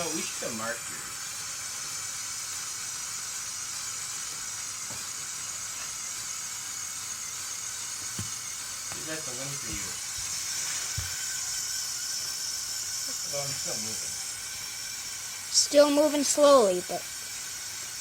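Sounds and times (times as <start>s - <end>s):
small electric motors whirring: 0.0s - 18.0s.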